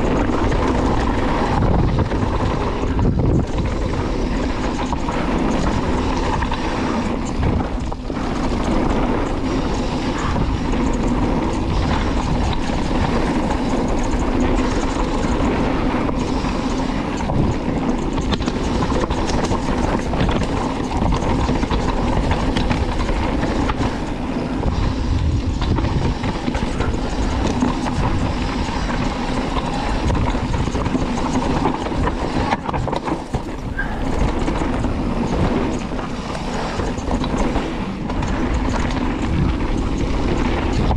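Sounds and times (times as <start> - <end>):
bike rattling and knocking: 0.0 - 40.9
bike tyres rolling over rough ground: 0.0 - 40.9
wind rushing over microphone: 0.0 - 40.9.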